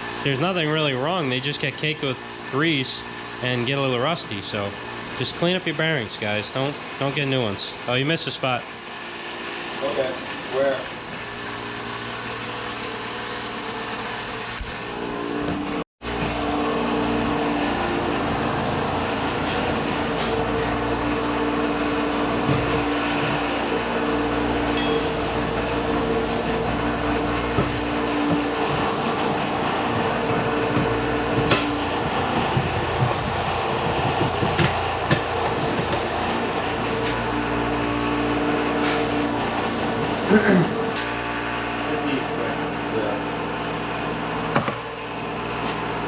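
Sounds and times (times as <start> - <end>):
machine motor hum: 0.0 - 46.0.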